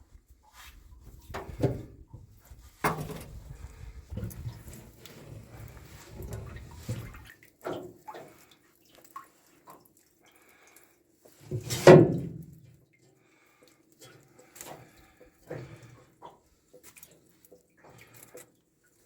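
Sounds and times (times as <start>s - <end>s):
water dripping and splashing: 2.7s - 19.0s.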